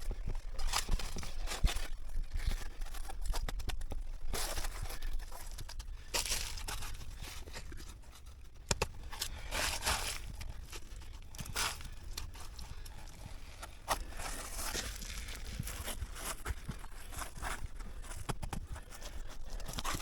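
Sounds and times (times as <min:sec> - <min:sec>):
rustling and crunching: 0:00.0 - 0:20.0.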